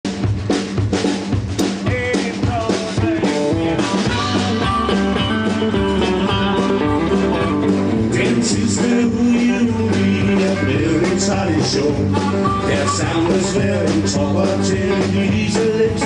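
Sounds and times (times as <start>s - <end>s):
rock and roll band music: 0.0s - 16.0s
electric guitar: 1.6s - 16.0s.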